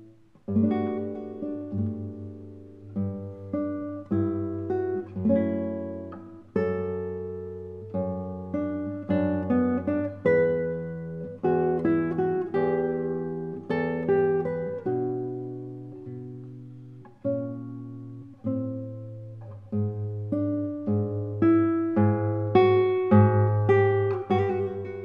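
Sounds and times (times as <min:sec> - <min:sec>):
classical guitar fingerstyle: 0:00.0 - 0:25.0.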